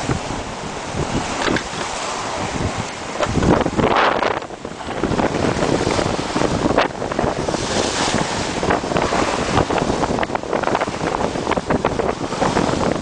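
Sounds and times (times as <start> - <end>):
bow wave and spray rushing: 0.0 - 13.0
wind buffeting the microphone: 0.0 - 13.0.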